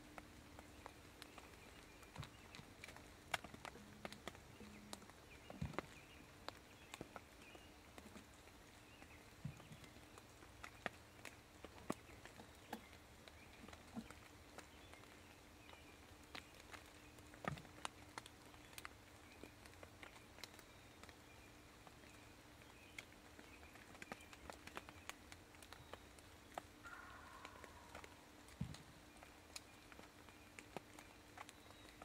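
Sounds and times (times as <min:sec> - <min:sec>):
turkeys stepping on leaf litter: 0:00.0 - 0:32.0.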